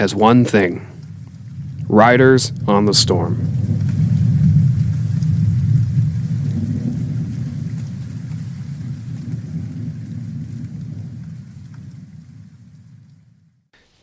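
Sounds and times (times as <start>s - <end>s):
steady rain: 0.0s - 14.0s
thunder rumbling: 0.0s - 14.0s.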